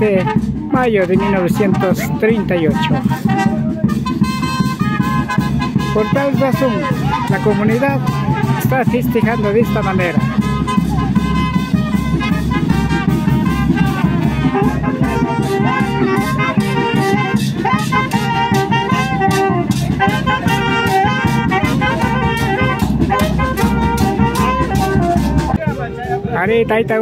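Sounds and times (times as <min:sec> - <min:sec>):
cymbals: 0:00.0 - 0:26.7
bass drum: 0:00.0 - 0:27.0
saxophones and trumpet: 0:00.0 - 0:27.0.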